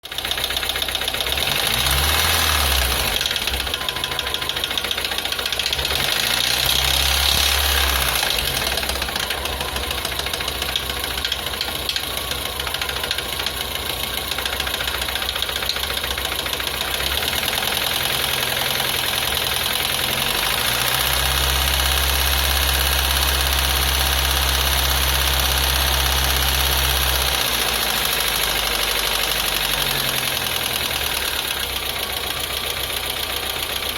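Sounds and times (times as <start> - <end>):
car engine running: 0.0 - 33.9
rapid engine knock: 0.0 - 33.9.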